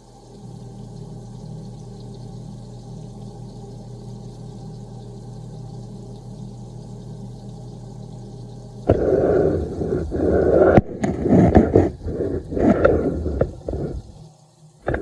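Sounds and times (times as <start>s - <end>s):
range hood fan hum: 0.0s - 15.0s.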